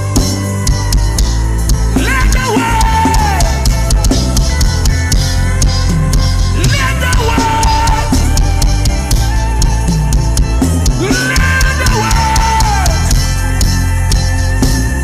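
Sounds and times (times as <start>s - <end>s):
drum kit beat: 0.0s - 15.0s
worship band music: 0.0s - 15.0s.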